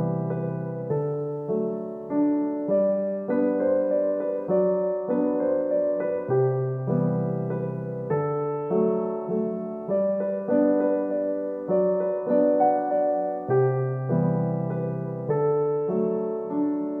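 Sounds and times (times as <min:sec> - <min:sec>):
soft electric piano chords: 0:00.0 - 0:17.0.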